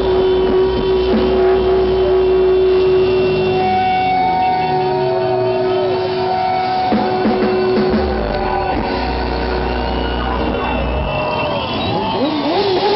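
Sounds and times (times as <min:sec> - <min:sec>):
drums: 0:00.0 - 0:12.9
electric guitar: 0:00.0 - 0:12.9.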